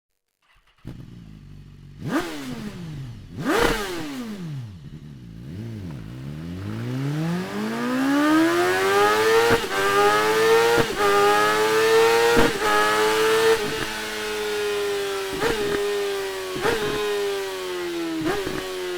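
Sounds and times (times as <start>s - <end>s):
motorcycle engine revving: 0.4s - 18.9s.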